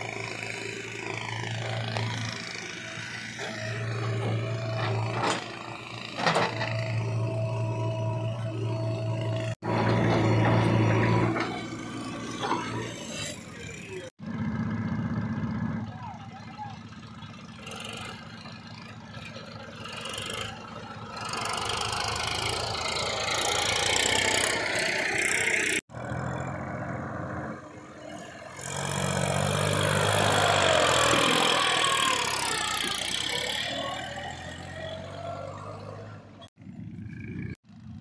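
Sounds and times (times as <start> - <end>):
tractor diesel engine passing: 0.0 - 38.0.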